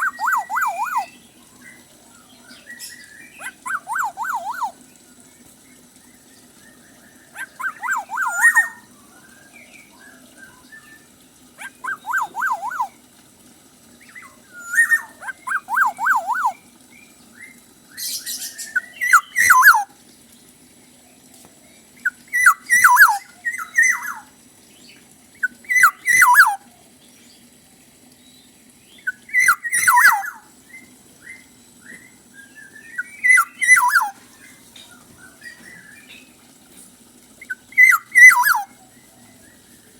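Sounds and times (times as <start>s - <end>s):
bird whistling song: 0.0s - 13.0s, 14.0s - 19.9s, 22.0s - 26.6s, 28.3s - 36.4s, 37.4s - 39.9s
high bird chatter: 0.0s - 13.0s, 14.0s - 20.4s, 21.8s - 27.5s, 28.3s - 36.4s, 37.4s - 39.7s.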